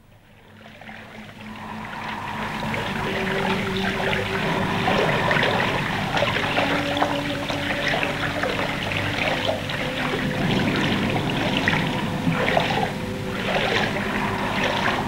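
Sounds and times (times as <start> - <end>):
faint steady tones: 0.0 - 15.0
water trickling and splashing: 0.0 - 15.0.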